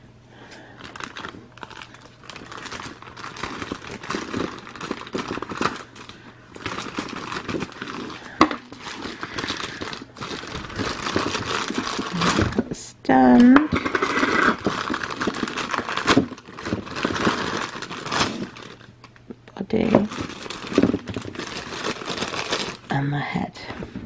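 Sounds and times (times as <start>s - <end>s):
plastic bags crinkling: 0.4s - 12.8s, 13.4s - 23.0s.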